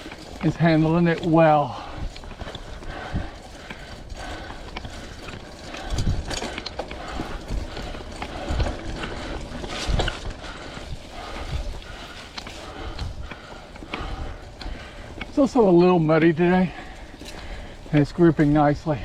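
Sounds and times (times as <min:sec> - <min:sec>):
bike clicks and rattles: 0:00.0 - 0:19.0
bike tyres rolling on dirt: 0:00.0 - 0:19.0.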